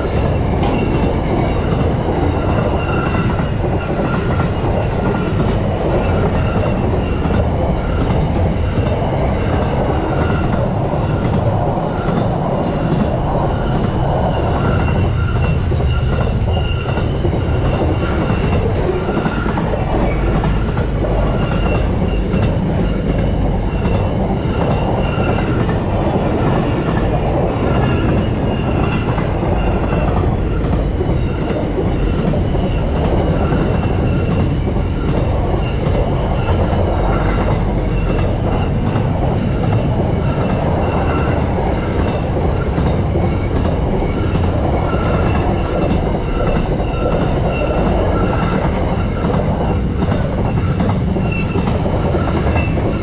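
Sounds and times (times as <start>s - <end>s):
freight wagons rumbling on rails: 0.0s - 53.0s.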